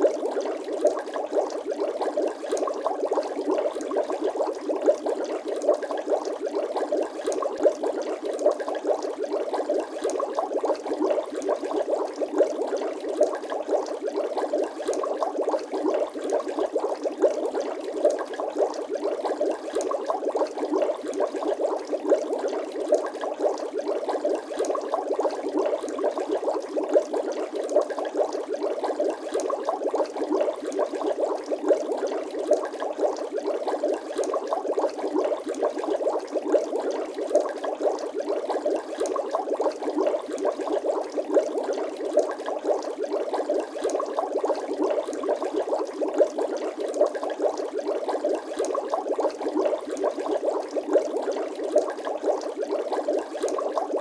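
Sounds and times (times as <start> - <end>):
watery bubble pops: 0.0 - 54.0.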